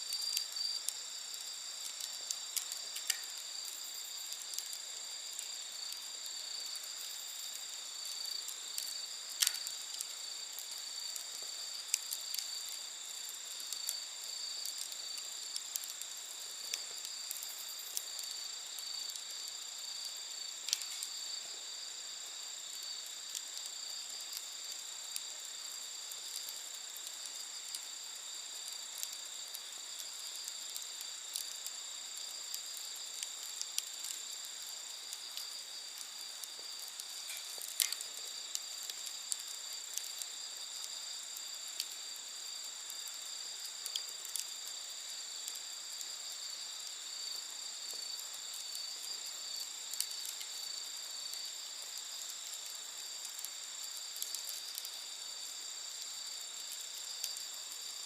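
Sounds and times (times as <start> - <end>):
crickets chirring: 0.0 - 58.0
wood fire crackling and popping: 0.0 - 58.0.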